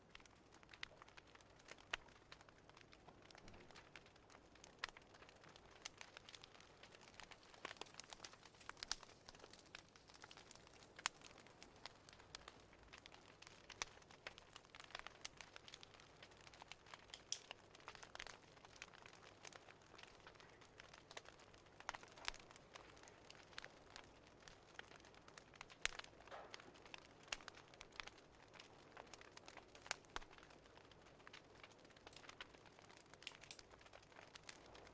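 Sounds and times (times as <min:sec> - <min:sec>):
fireplace crackling and popping: 0:00.0 - 0:34.9.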